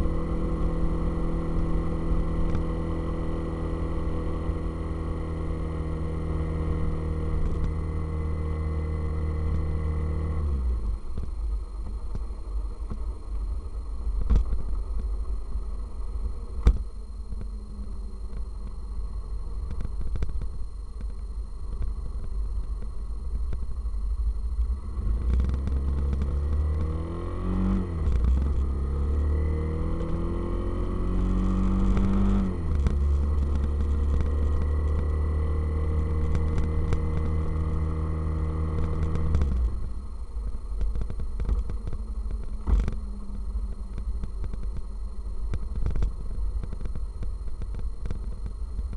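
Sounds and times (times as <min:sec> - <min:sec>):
motorcycle engine: 0:00.0 - 0:18.8, 0:21.8 - 0:48.9.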